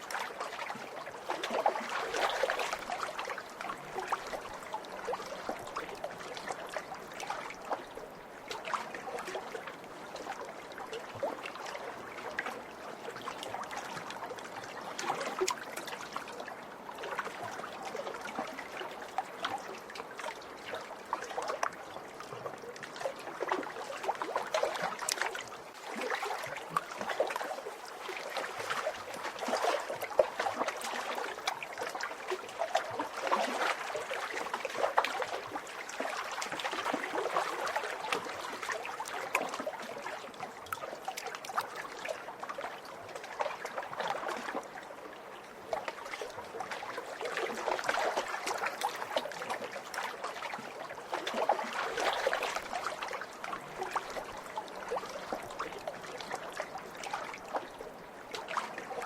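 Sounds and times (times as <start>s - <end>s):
waves lapping against shore: 0.0s - 59.0s.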